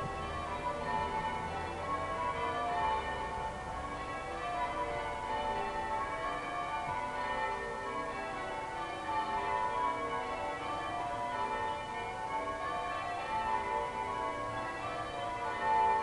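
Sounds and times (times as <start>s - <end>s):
cathedral bells ringing: 0.0s - 16.0s.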